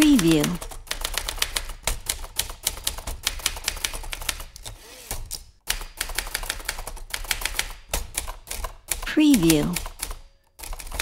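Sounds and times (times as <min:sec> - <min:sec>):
typewriter keys striking: 0:00.0 - 0:11.0.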